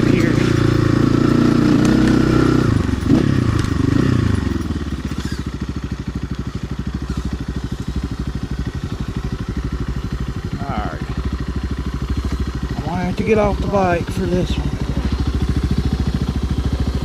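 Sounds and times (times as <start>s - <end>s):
dirt bike engine: 0.0s - 17.0s.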